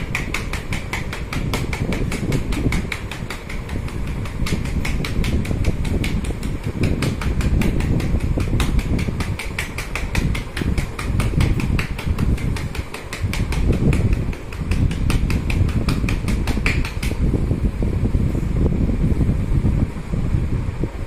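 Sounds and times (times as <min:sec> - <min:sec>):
rapid tapping on chest: 0:00.0 - 0:17.4.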